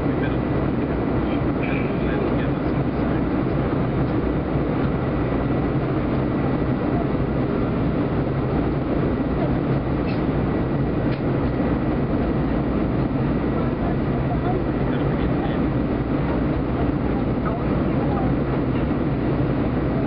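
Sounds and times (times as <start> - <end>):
jet engines and airflow in cabin: 0.0 - 20.0.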